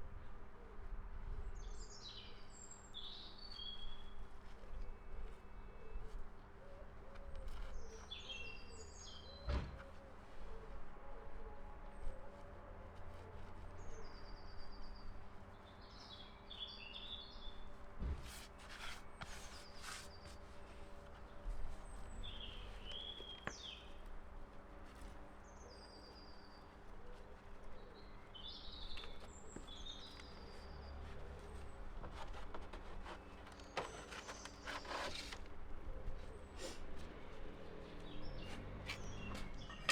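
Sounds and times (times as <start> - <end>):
songbirds chirping: 0.2 - 17.9, 18.5 - 39.9.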